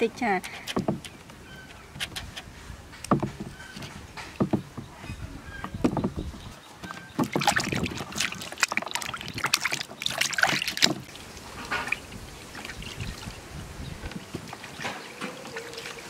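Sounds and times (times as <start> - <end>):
water sloshing in plastic basin: 0.0 - 16.0.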